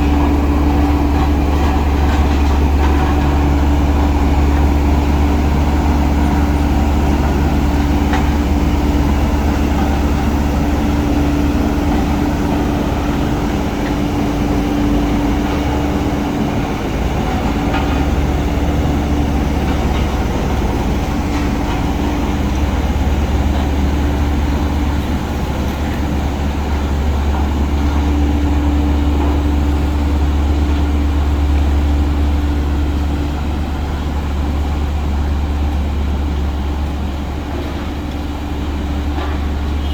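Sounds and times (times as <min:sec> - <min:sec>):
steady machine hum: 0:00.0 - 0:37.5
diesel engine rumbling: 0:00.0 - 0:39.9.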